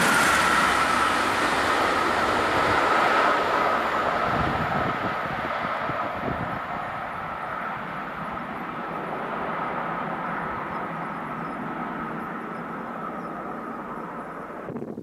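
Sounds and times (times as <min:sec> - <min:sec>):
electric train rumble: 0:00.0 - 0:14.8.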